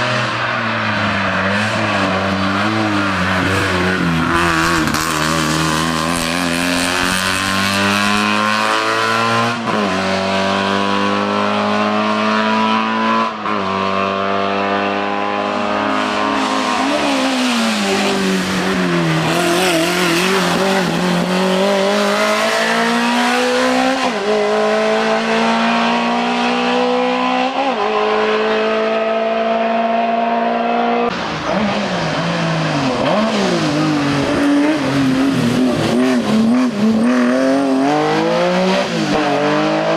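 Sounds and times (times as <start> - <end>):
race car engine revving: 1.0 - 39.9.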